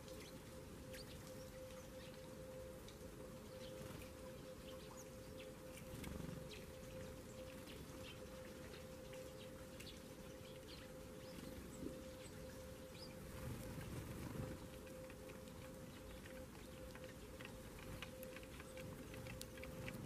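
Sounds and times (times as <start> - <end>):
small birds chirping: 0.0 - 2.4, 3.4 - 20.0
steady low hum: 0.0 - 20.0.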